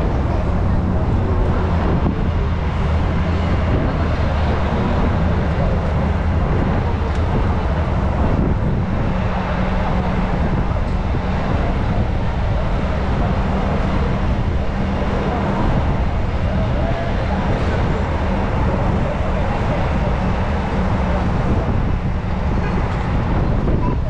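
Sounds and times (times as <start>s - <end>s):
bus engine droning: 0.0s - 24.0s
traffic and street noise: 0.0s - 24.0s
wind on microphone: 0.0s - 24.0s.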